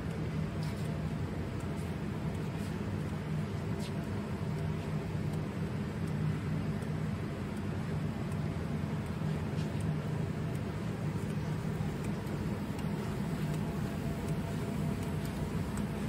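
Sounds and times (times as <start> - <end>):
faint ticks: 0.0 - 16.0
machine low hum: 0.0 - 16.0.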